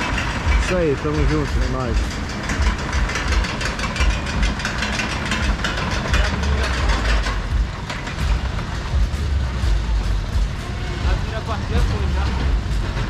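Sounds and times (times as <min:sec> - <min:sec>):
roller coaster rumbling and clattering: 0:00.0 - 0:13.0.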